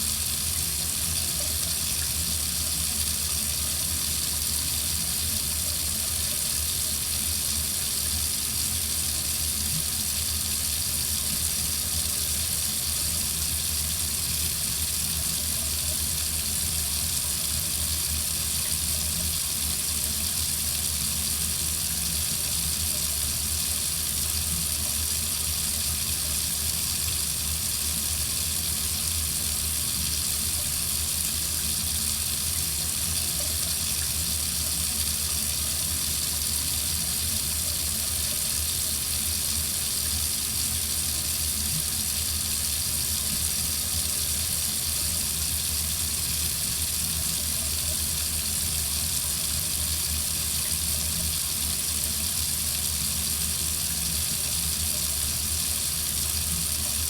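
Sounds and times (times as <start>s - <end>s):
water faucet running: 0.0s - 57.0s.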